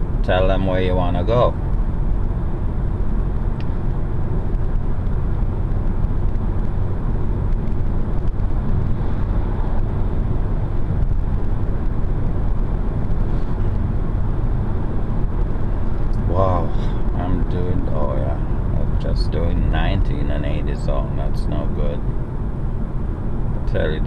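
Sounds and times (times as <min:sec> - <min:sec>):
road and tyre rumble in car: 0:00.0 - 0:24.0.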